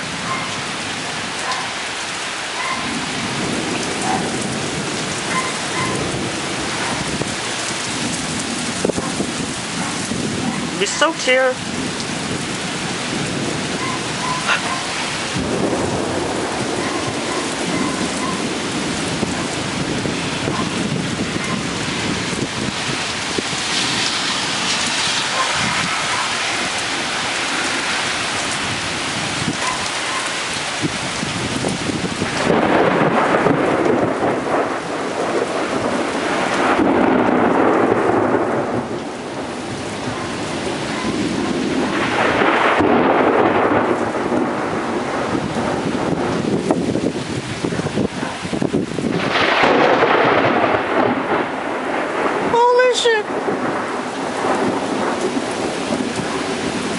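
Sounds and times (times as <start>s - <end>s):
heavy rain pouring: 0.0s - 56.9s
thunder rumbling: 2.2s - 56.9s.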